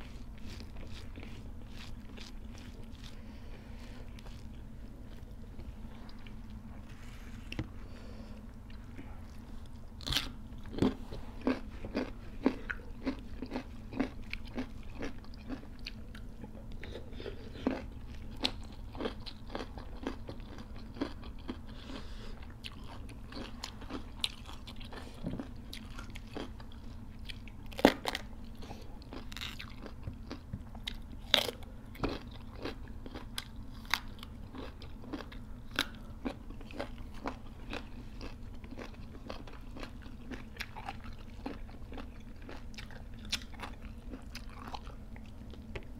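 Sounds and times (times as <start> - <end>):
crunching raw vegetables: 0.0 - 7.8, 8.5 - 45.9
steady low hum: 0.0 - 45.9.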